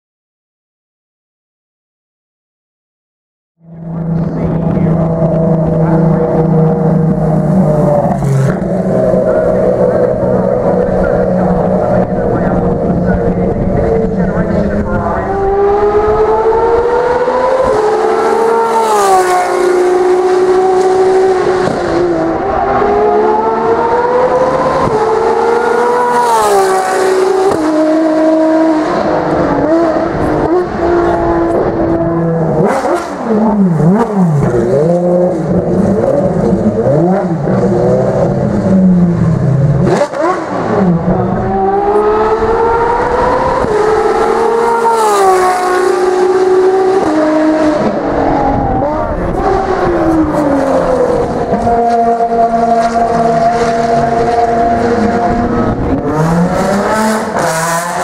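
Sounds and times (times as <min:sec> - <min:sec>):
race car engine at full throttle: 0:03.6 - 0:58.0.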